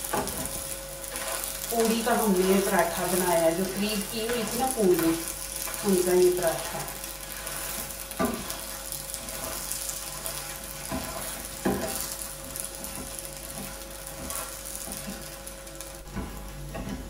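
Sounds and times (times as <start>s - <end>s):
spatula knocking and scraping pan: 0.0s - 15.4s, 16.0s - 17.0s
flatbread sizzling in oil: 0.0s - 17.0s.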